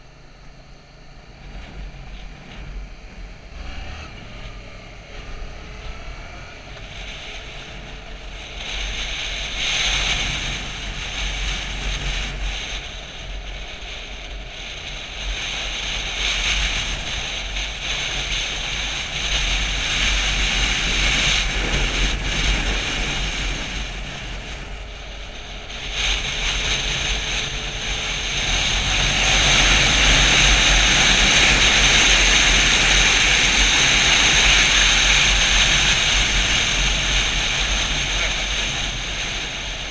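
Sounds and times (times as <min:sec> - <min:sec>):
motorcycle engine running: 0:00.0 - 0:39.9
wind rushing over microphone: 0:00.9 - 0:39.9.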